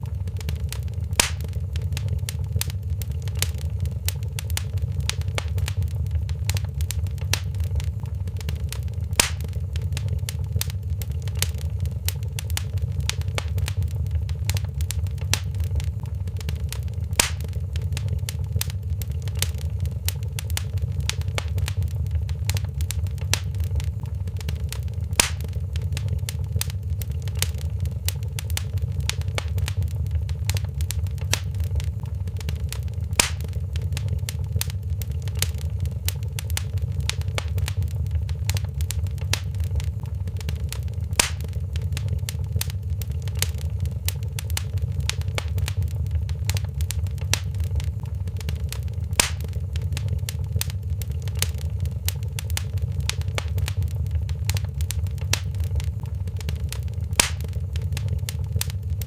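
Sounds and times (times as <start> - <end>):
loud fire snaps: 0.0 - 59.0
low rumble of flames: 0.0 - 59.0
small fire pops: 0.0 - 59.0.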